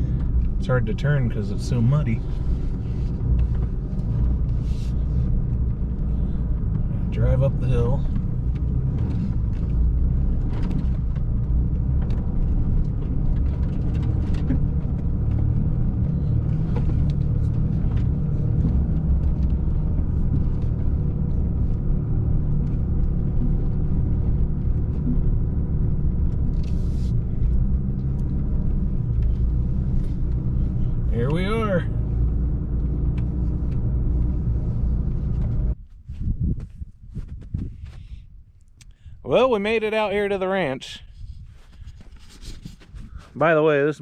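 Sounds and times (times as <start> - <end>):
truck engine and road rumble: 0.0 - 44.0.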